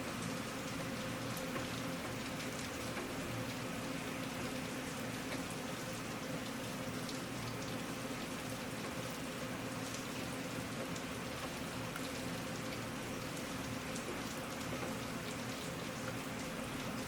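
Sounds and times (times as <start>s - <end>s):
raindrops ticking on surface: 0.0s - 17.0s
steady rain: 0.0s - 17.0s.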